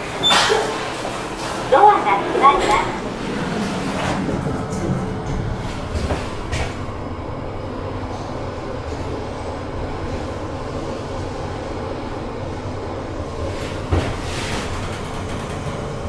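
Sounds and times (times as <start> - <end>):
elevator rumbling and humming: 0.0 - 16.0.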